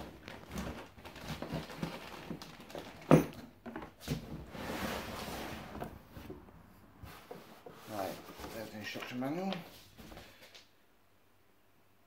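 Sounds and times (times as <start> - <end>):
cardboard and packing rustling: 0.0 - 10.5.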